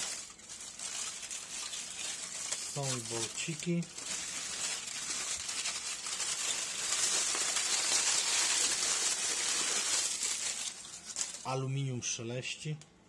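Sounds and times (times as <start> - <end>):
aluminium foil crinkling: 0.0 - 12.2.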